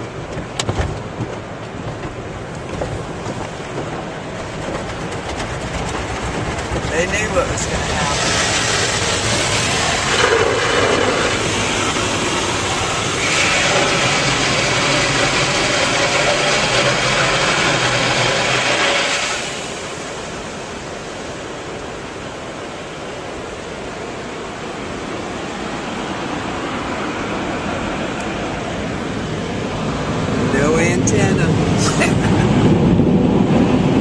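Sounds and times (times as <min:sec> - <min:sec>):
car wash rushing noise: 0:00.0 - 0:34.0.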